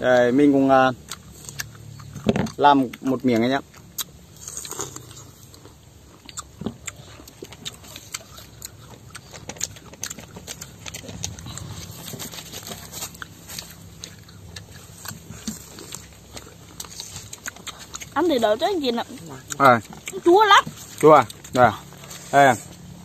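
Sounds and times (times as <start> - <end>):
crunchy fruit chewing: 0.0 - 23.0.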